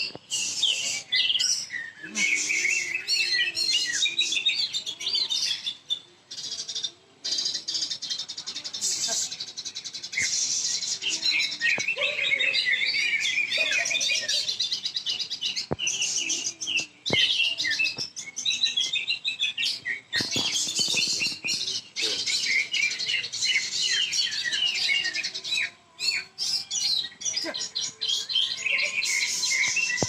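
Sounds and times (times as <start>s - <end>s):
bird chirping and whistling: 0.0s - 5.8s, 10.0s - 30.0s.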